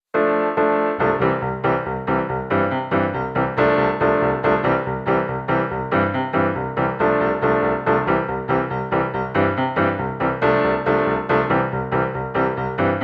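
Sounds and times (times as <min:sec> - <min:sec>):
piano music: 0:00.1 - 0:13.0.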